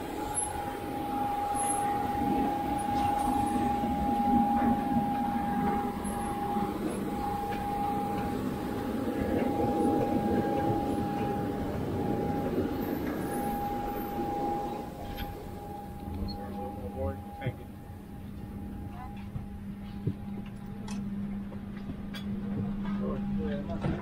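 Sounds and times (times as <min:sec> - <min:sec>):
jet airliner machinery whine: 0:00.0 - 0:24.0.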